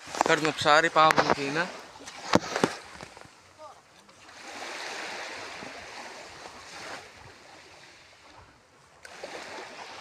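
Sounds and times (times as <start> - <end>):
small waves washing on shore: 0.0 - 10.0.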